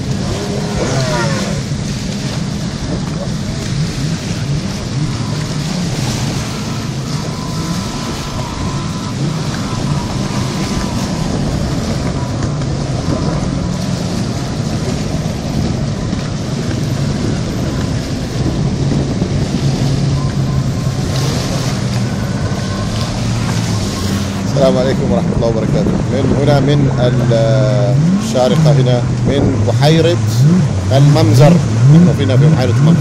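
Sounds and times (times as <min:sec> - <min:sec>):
jet ski engine running: 0:00.0 - 0:33.0
wind noise on microphone: 0:00.0 - 0:33.0.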